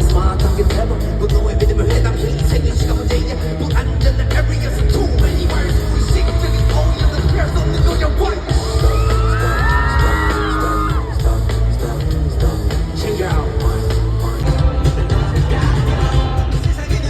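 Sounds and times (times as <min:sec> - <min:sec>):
hip-hop music with heavy bass: 0:00.0 - 0:17.0.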